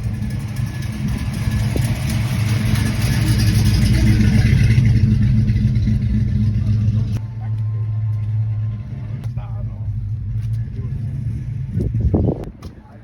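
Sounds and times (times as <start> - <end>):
car engine running: 0.0 - 12.7.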